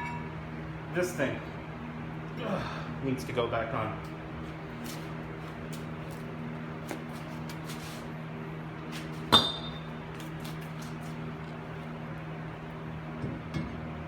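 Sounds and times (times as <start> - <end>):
electric fan humming: 0.0 - 14.0.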